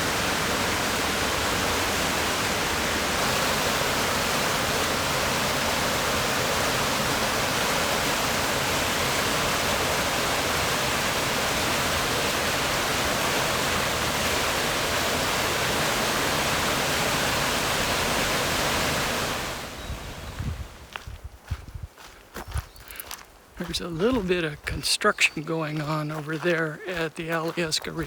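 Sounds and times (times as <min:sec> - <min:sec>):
fast-flowing creek rushing: 0:00.0 - 0:20.8, 0:23.0 - 0:28.0.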